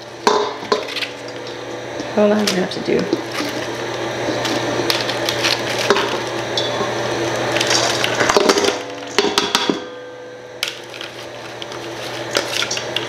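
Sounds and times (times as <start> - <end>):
food processor motor running: 0.0 - 9.8, 10.5 - 13.0.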